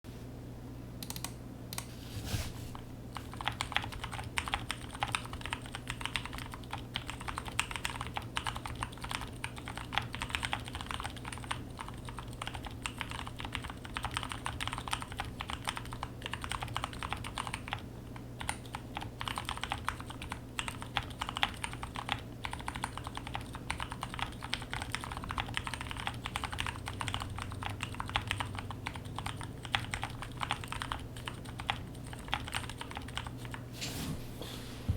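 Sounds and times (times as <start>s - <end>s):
typing on mechanical keyboard: 3.1s - 17.8s, 18.4s - 33.6s.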